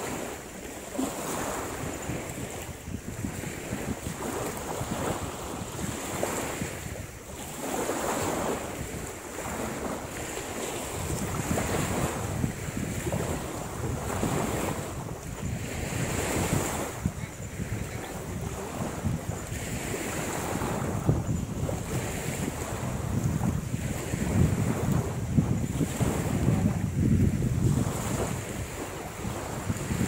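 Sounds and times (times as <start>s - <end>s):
waves washing on beach: 0.0s - 30.0s
wind buffeting microphone: 0.0s - 30.0s.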